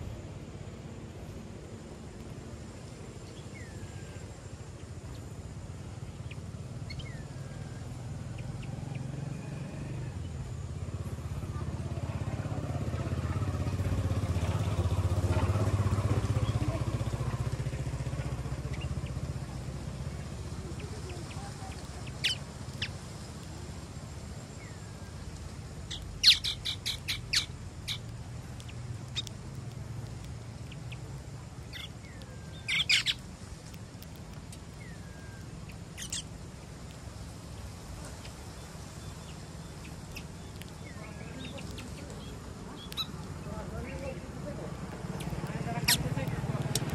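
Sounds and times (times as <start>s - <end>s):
passing vehicle engine rumble: 0.0s - 46.9s
small birds chirping: 0.0s - 46.9s.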